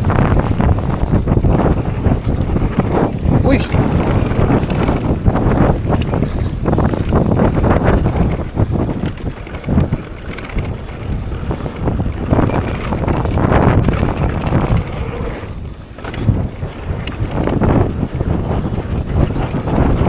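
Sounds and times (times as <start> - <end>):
bike rattle and tyre noise: 0.0 - 20.0
wind buffeting microphone: 0.0 - 20.0.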